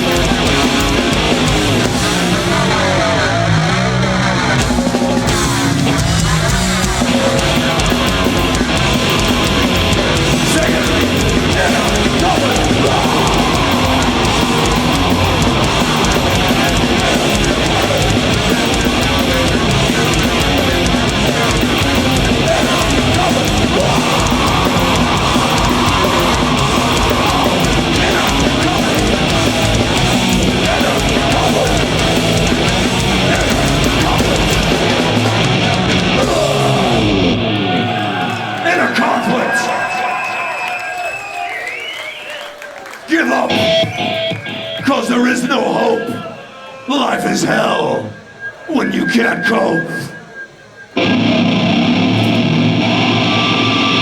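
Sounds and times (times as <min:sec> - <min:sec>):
heavy metal band playing: 0:00.0 - 0:40.0, 0:43.4 - 0:50.1, 0:50.9 - 0:54.0.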